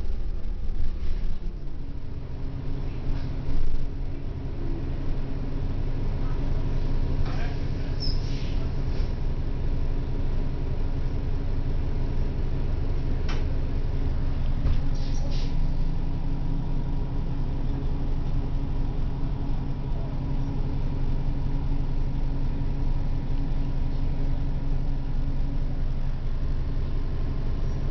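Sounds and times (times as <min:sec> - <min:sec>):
bus engine humming: 0:00.0 - 0:27.9.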